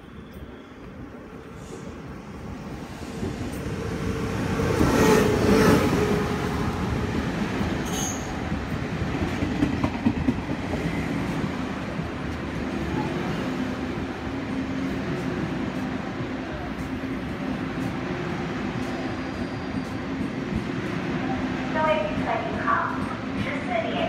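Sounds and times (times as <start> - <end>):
train coaches rumbling: 0.0 - 24.0
train rushing past: 0.0 - 24.0.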